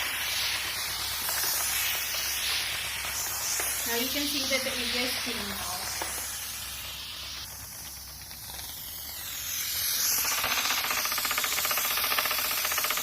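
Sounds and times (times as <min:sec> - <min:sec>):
rapid pulsing rattle: 0:00.0 - 0:13.0
steam mop hissing: 0:00.0 - 0:13.0.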